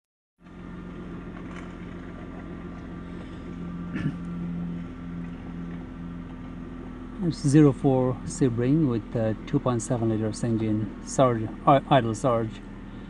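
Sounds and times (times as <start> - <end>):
car engine idling: 0.4 - 13.0.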